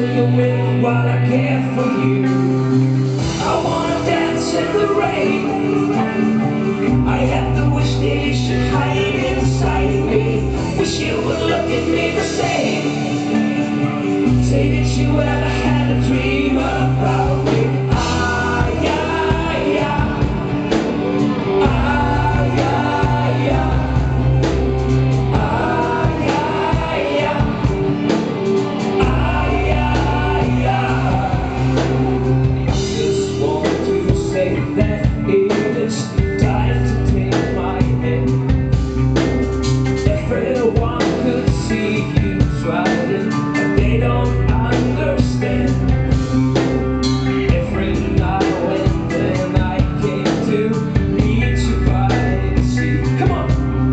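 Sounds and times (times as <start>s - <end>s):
person singing: 0.0s - 38.8s, 39.9s - 46.2s, 47.1s - 53.9s
live rock band playing: 0.0s - 53.9s.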